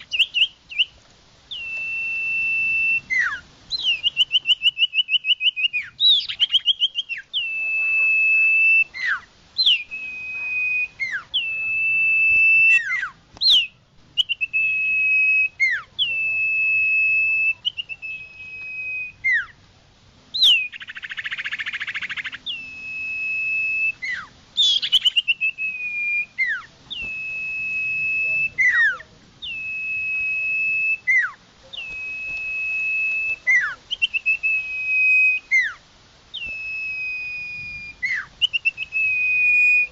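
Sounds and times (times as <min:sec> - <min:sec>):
bird whistling song: 0:00.0 - 0:19.6, 0:20.3 - 0:39.9
harsh buzzy bird call: 0:00.0 - 0:19.6, 0:20.4 - 0:39.9.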